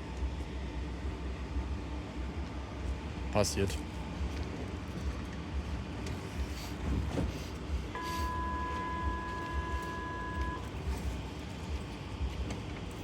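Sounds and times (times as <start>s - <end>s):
tram interior rumble: 0.0s - 13.0s.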